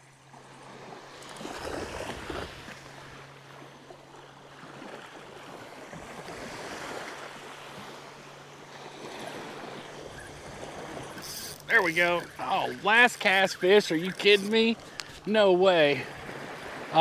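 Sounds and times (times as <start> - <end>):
small waves lapping at shoreline: 0.0 - 17.0.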